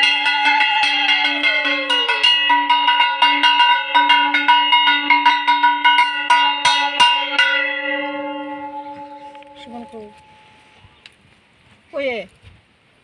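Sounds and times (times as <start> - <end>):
metal bell struck rapidly: 0.0 - 10.6
sliding tone: 0.0 - 10.8.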